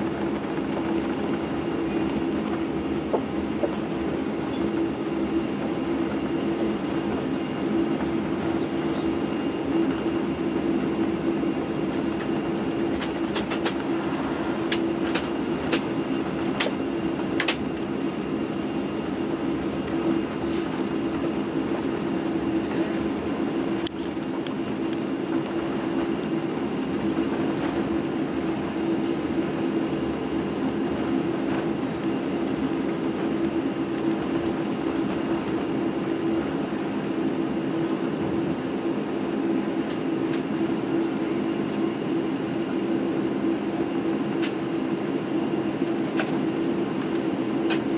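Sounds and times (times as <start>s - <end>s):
jet engines humming: 0.0s - 47.9s.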